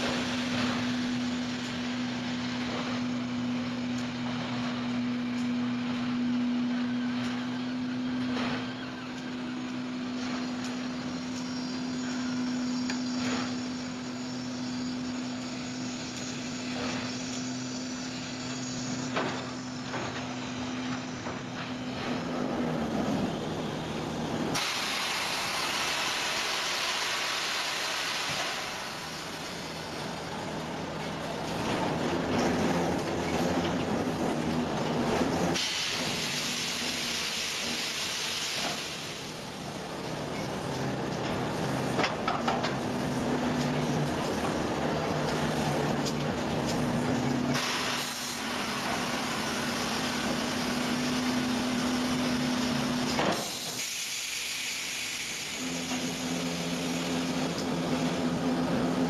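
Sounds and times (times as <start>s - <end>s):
loud machine hiss: 0.0s - 59.0s
sawmill machinery hum: 0.0s - 59.0s.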